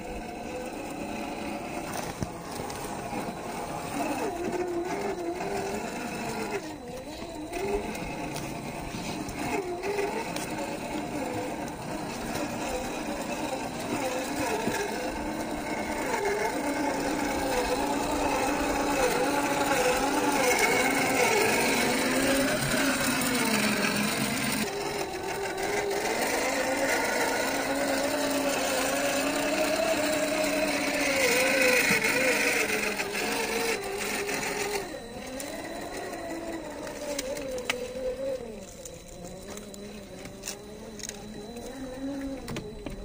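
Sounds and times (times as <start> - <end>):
toy electric motor whining: 0.0 - 43.0.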